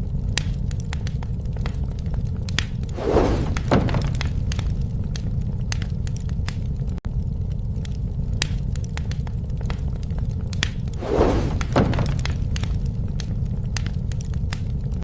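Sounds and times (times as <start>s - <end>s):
bonfire crackling and popping: 0.0s - 15.0s
fire low rumble: 0.0s - 15.0s.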